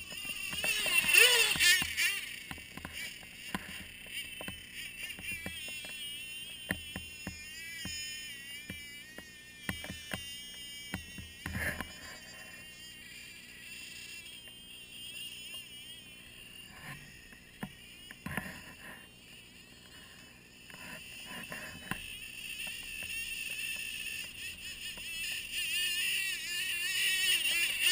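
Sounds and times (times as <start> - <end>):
toy snowmobile motor whining: 0.0 - 27.9.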